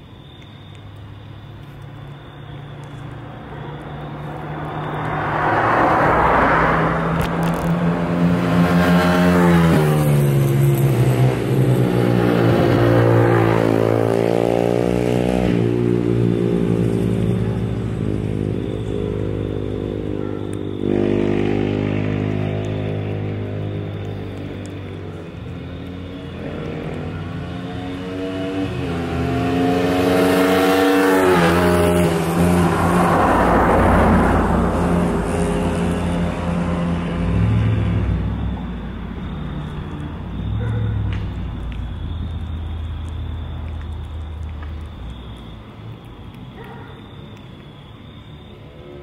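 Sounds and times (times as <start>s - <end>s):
vehicle engine passing by: 2.8s - 47.2s.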